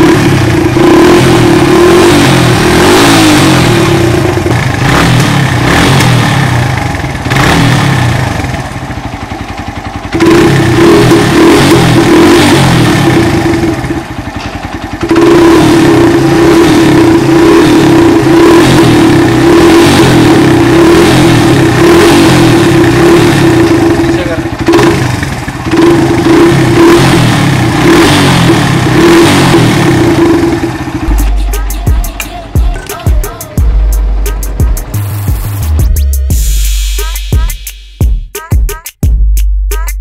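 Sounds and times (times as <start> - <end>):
motorcycle engine revving: 0.0 - 36.3.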